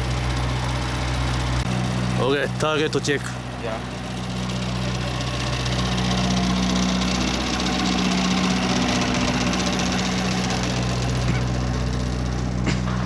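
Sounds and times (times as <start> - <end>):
engine-like motor hum: 0.0 - 13.0.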